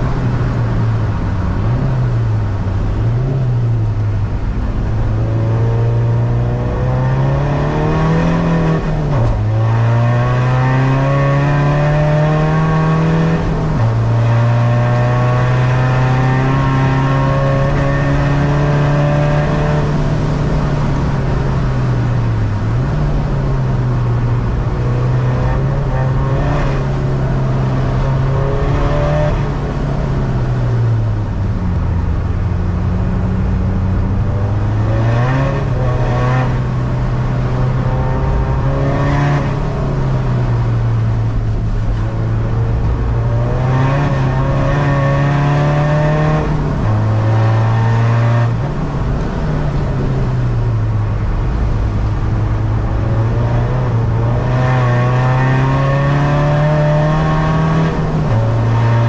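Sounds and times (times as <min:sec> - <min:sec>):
diesel car engine accelerating: 0:00.0 - 0:59.0.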